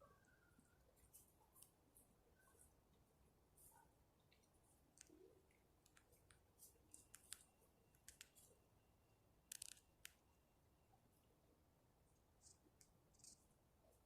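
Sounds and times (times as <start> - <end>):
faint clicks and ticks: 0.0 - 8.6, 9.4 - 10.4, 12.1 - 14.0.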